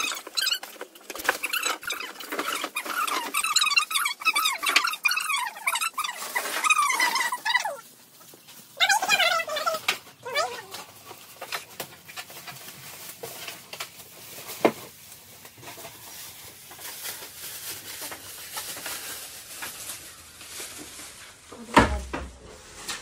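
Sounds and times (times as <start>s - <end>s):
plastic bag rustling: 0.0s - 23.0s.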